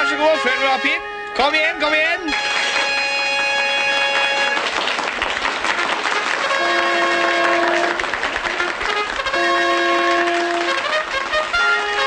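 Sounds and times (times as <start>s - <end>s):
crowd clapping: 2.3s - 12.0s.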